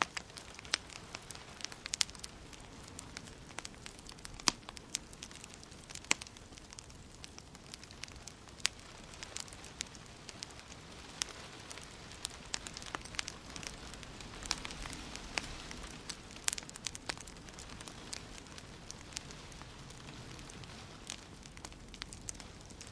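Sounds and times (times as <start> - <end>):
steady hiss: 0.0 - 22.9
wood fire crackling: 0.0 - 22.9.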